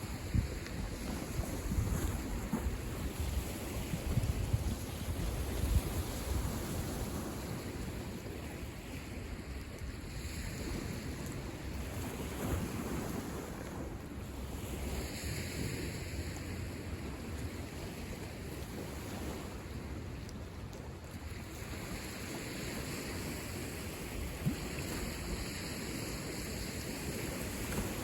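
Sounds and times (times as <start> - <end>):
waves washing onto shore: 0.0 - 28.0
wind buffeting microphone: 0.0 - 28.0.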